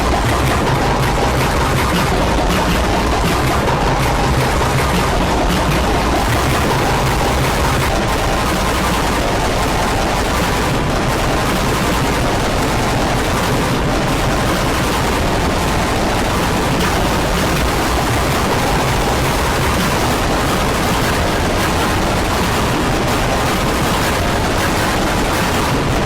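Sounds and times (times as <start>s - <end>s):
distorted stacked cough noise: 0.0s - 26.0s.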